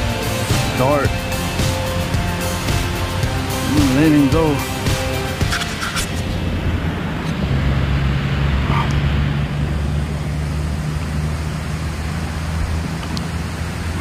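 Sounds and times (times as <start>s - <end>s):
low droning rumble: 0.0s - 14.0s.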